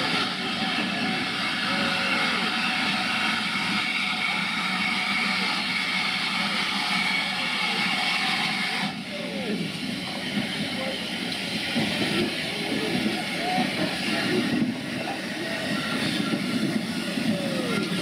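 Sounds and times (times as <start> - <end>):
steam locomotive hissing: 0.0 - 18.0.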